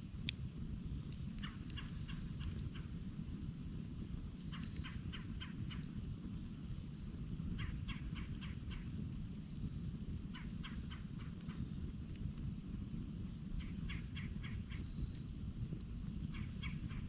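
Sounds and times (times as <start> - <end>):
campfire burning: 0.0 - 17.0
fire popping: 0.0 - 17.0.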